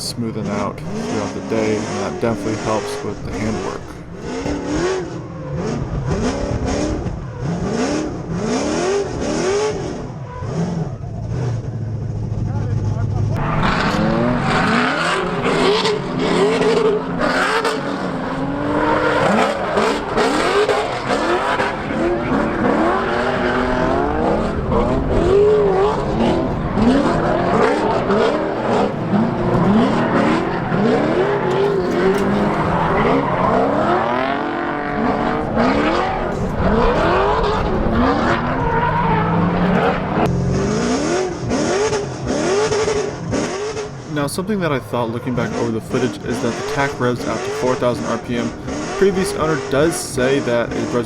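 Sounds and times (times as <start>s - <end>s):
car engine revving hard: 0.0s - 51.0s.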